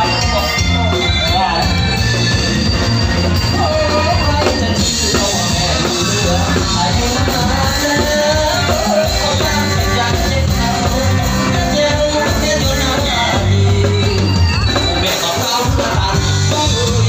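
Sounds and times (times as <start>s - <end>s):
wavering melody line: 0.0s - 15.3s
drum kit beat: 0.0s - 17.0s.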